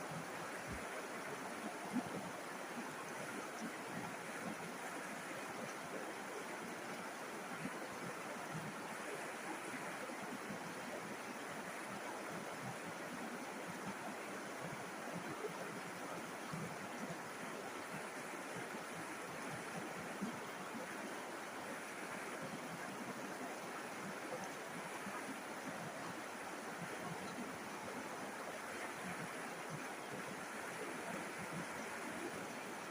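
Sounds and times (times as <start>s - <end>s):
river water flowing over rocks: 0.0s - 32.9s.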